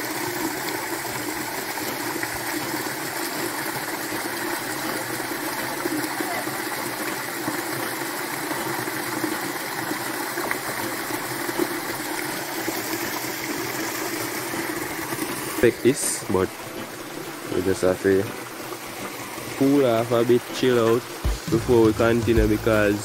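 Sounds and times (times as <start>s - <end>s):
stream cascading over rocks: 0.0s - 23.0s.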